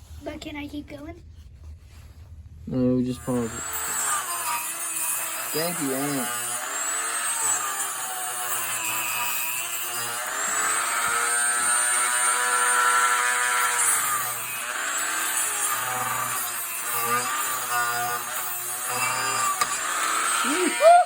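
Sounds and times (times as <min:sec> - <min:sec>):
rotary tool cutting wood: 0:03.2 - 0:21.0.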